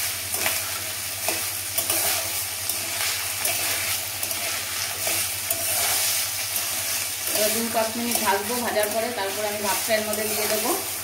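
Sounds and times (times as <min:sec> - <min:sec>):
vegetables sizzling in hot oil: 0:00.0 - 0:11.0
spatula scraping and tapping pan: 0:01.2 - 0:10.7.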